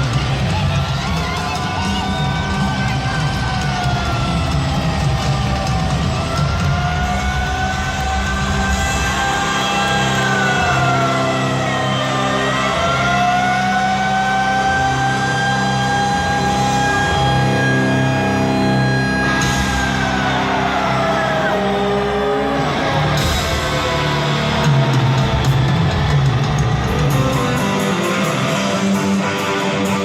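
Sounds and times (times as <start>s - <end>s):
bass and drums: 0.0s - 30.0s.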